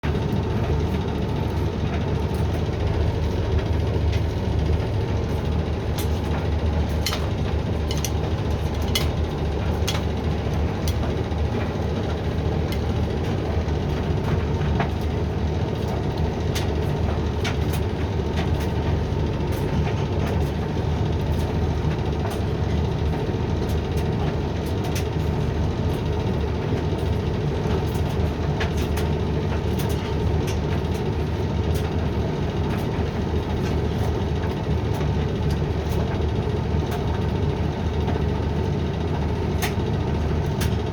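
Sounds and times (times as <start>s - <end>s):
tumble dryer motor hum: 0.0s - 40.9s
load tumbling clicks and taps: 0.1s - 40.9s.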